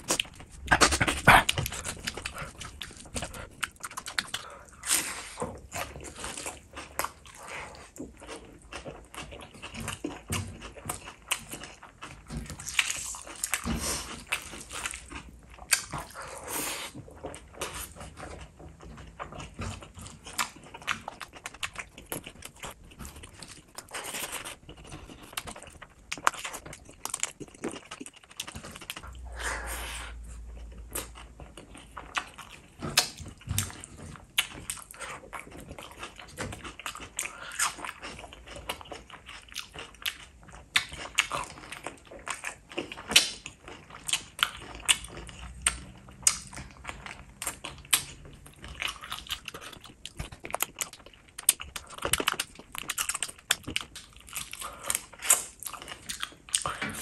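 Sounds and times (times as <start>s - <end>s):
wet chewing and lip smacking: 0.0s - 29.2s, 30.0s - 57.0s.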